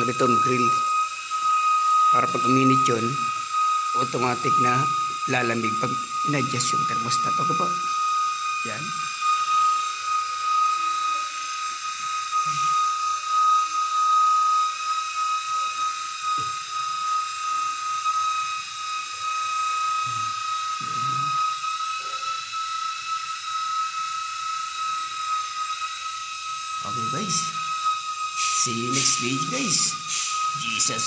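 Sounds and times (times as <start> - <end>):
high-pitched whistling tone: 0.0 - 31.0.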